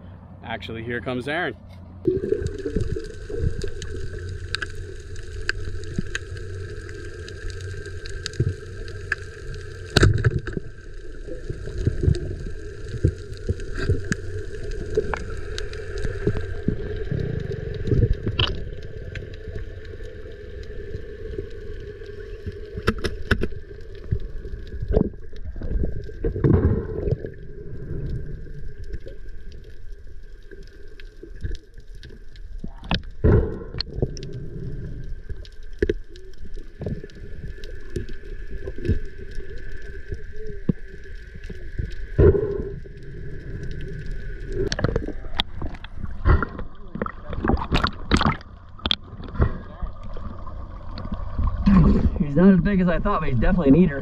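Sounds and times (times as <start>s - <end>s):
boat motor drone underwater: 1.6s - 54.0s
water gurgling: 2.0s - 54.0s.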